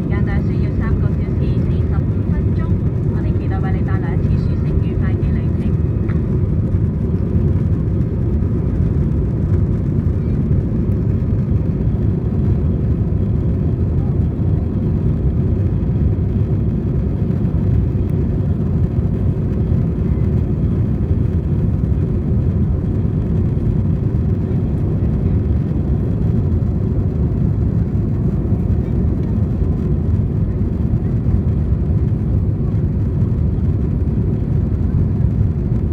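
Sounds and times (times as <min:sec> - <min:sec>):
jet engines and cabin air rumble: 0:00.0 - 0:35.9.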